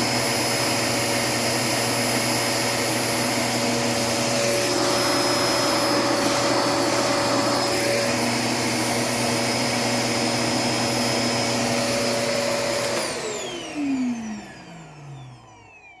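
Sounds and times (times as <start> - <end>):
vacuum cleaner motor running: 0.0 - 16.0.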